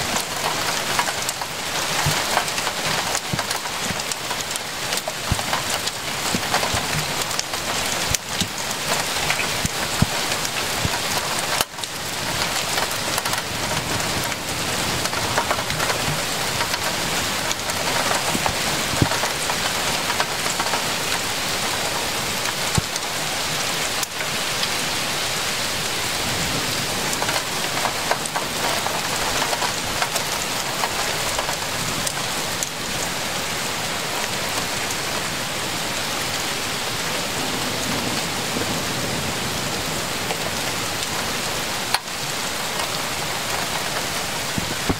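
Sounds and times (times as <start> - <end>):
heavy rain on roofs and street: 0.0 - 44.9.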